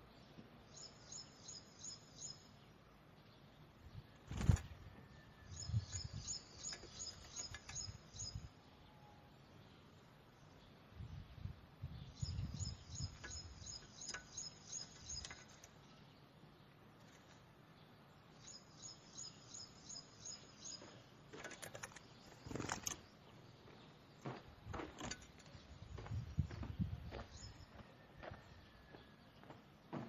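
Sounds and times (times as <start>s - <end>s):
small bird chirping: 0.0s - 29.6s.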